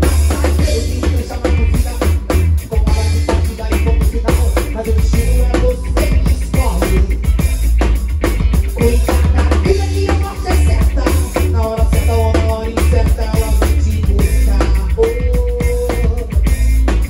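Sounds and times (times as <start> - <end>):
drum kit: 0.0 - 17.0
electric bass low line: 0.0 - 17.0
live band playing: 0.0 - 17.0.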